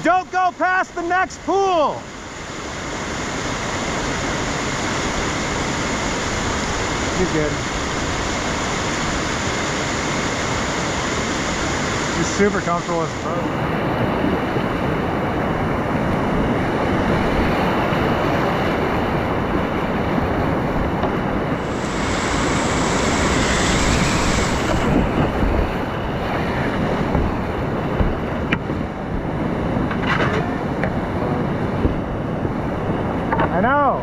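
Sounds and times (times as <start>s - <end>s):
river rushing through rapids: 0.0s - 34.0s.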